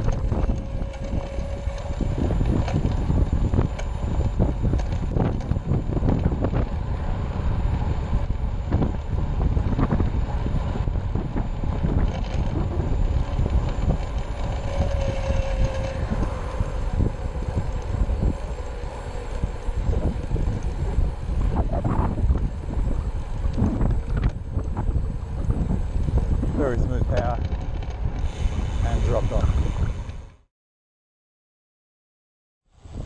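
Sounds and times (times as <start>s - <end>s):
electric motor whine: 0.0s - 30.3s
wind rumbling on microphone: 0.0s - 30.4s, 32.8s - 33.0s.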